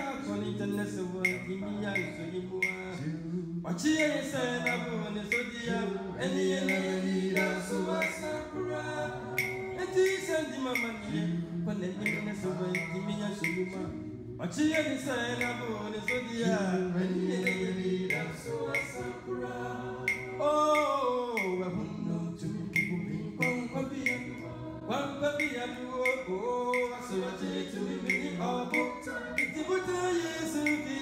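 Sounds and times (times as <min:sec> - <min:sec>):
light ticking: 0:00.0 - 0:31.0
male group singing in harmony: 0:00.0 - 0:31.0.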